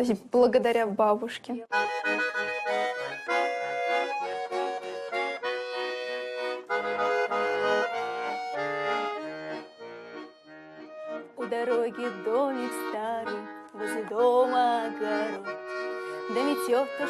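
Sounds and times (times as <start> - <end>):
accordion playing folk tune: 1.7 - 17.0.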